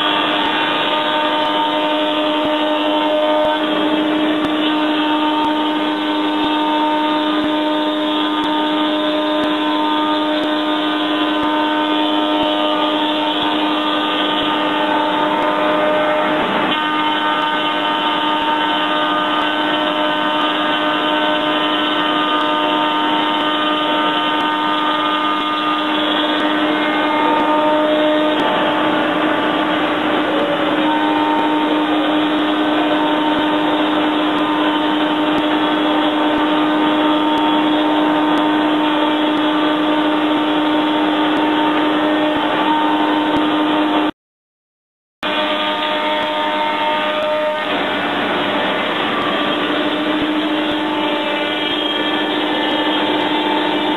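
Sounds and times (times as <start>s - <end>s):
woodworking machine hum and whine: 0.0s - 44.1s, 45.2s - 53.9s.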